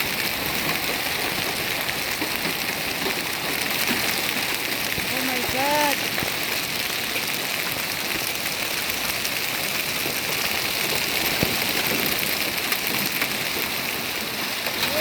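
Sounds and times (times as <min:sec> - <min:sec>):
hailstones ticking: 0:00.0 - 0:15.0
rain hissing: 0:00.0 - 0:15.0.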